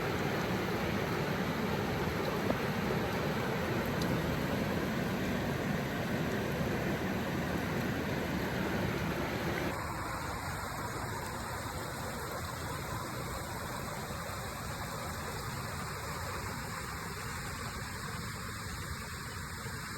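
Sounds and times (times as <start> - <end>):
stream water rushing: 0.0 - 19.9.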